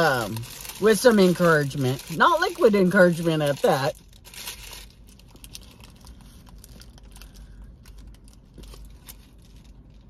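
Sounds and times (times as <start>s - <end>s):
paper wrapper crinkling: 0.0s - 10.0s.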